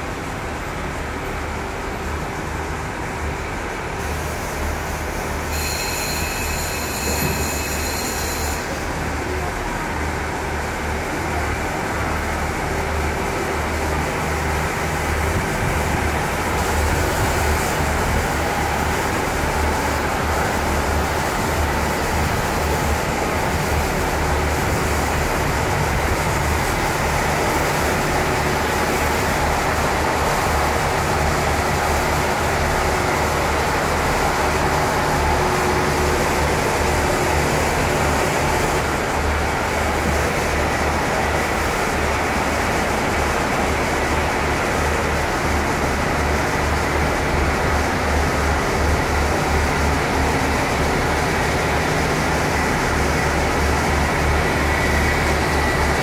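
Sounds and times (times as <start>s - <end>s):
diesel railcar engine idling: 0.0s - 56.0s.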